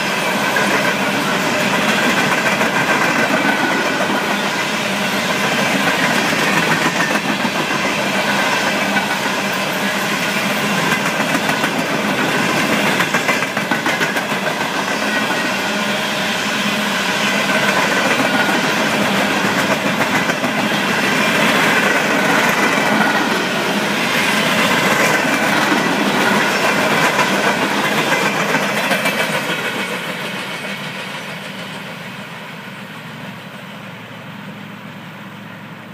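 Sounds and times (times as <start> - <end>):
freight train rolling past: 0.0 - 35.9.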